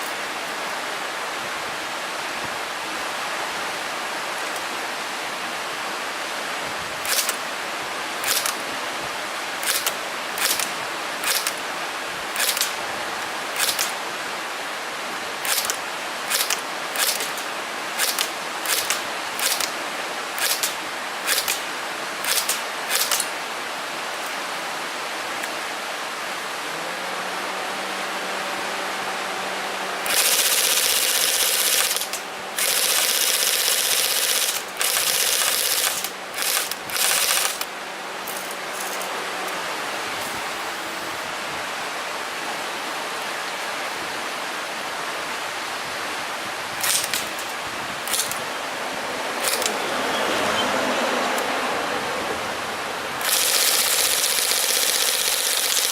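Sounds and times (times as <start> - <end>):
steady hiss: 0.0 - 49.9, 52.2 - 55.9
louder steady hiss: 0.0 - 55.9.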